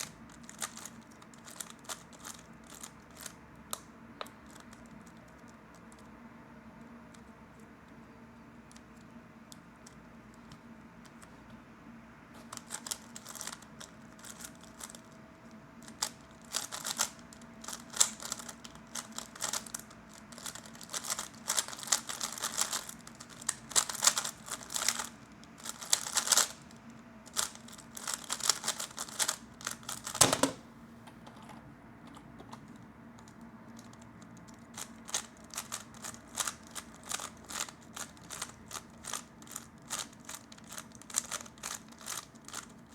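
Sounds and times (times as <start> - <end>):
puzzle cube plastic clicking: 0.0 - 6.1, 12.4 - 15.0, 15.8 - 26.7, 27.3 - 31.4, 32.1 - 42.9.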